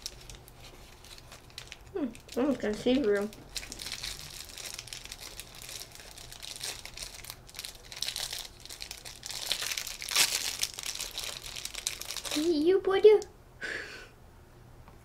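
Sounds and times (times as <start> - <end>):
plastic packets crinkling: 0.0 - 13.2.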